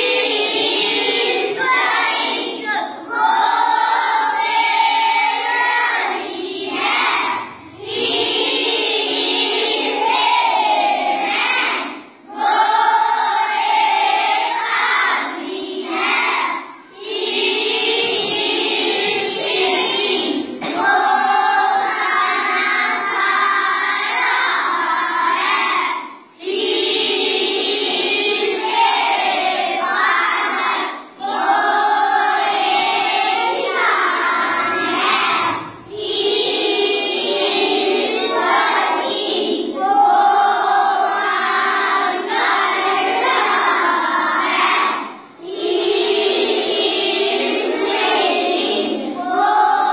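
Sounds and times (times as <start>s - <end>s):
boys reciting in chant: 0.0s - 49.9s.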